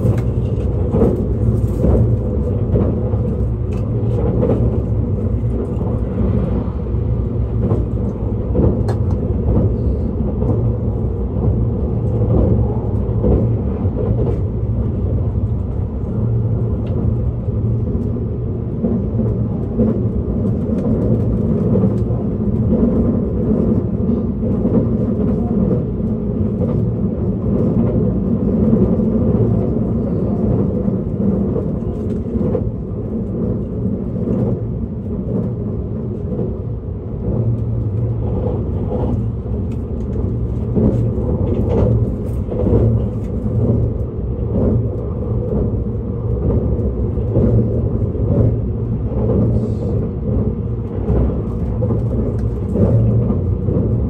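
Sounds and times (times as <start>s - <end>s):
track clicks and knocks: 0.0s - 6.7s, 7.5s - 10.7s, 18.7s - 54.0s
train wheels rumbling on rail: 0.0s - 54.0s.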